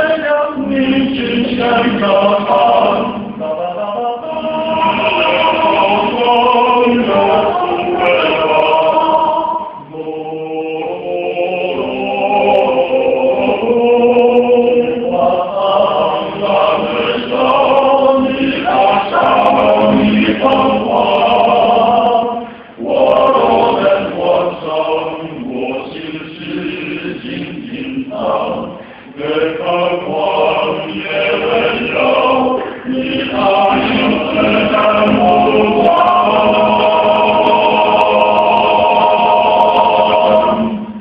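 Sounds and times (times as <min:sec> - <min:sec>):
male vocal ensemble singing: 0:00.0 - 0:41.0.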